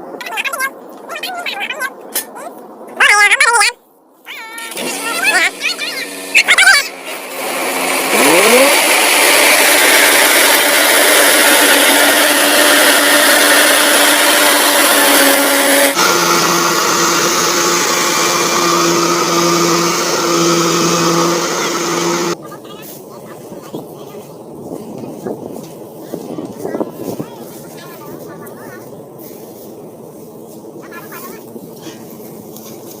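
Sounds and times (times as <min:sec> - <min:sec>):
combine harvester diesel engine: 0:04.6 - 0:33.0.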